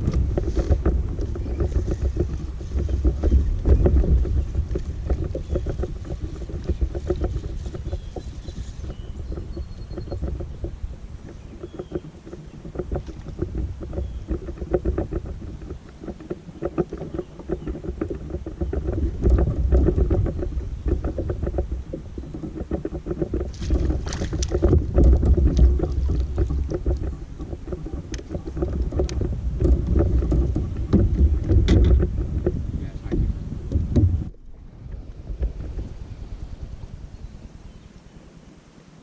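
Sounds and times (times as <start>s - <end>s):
hull knocking on water: 0.0s - 35.9s
boat engine low rumble: 0.0s - 39.0s.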